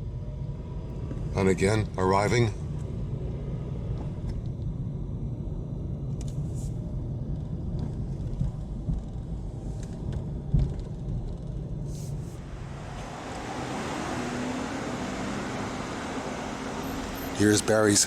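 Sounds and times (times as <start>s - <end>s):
street ambience rumble: 0.0s - 18.0s.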